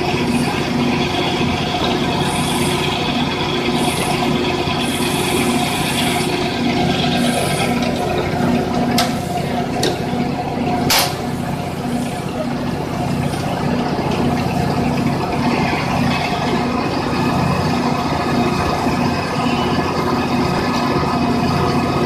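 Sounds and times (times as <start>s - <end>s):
pipe threading machine running: 0.0s - 22.0s.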